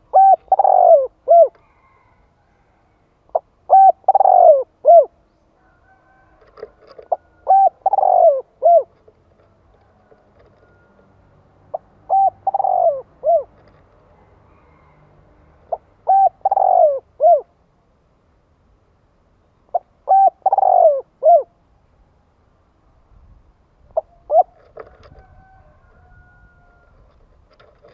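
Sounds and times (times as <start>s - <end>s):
dove cooing: 0.0s - 2.7s, 3.3s - 17.6s, 19.7s - 21.6s, 23.9s - 27.9s.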